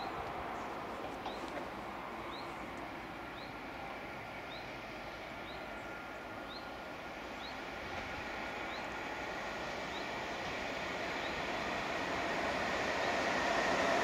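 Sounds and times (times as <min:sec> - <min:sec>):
steady outdoor hiss: 0:00.0 - 0:14.0
train rumbling: 0:00.0 - 0:14.0.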